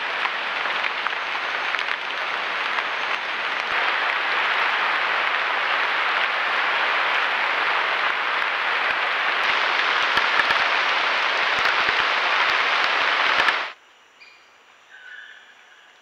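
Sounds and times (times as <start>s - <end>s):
rain hissing on foliage: 0.0s - 13.8s.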